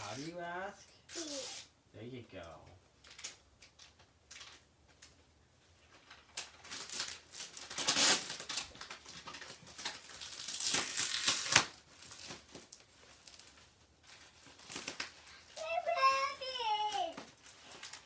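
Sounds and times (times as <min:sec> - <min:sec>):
plastic wrapper crinkling and tearing: 0:03.0 - 0:18.0.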